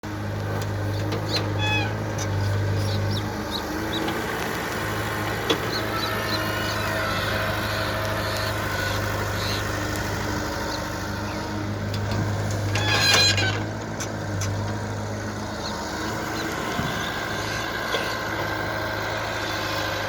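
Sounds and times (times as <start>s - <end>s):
heavy diesel engine humming: 0.0s - 20.0s.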